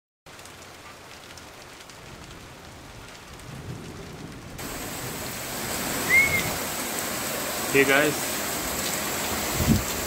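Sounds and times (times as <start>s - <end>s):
heavy rain pouring: 0.3s - 10.0s.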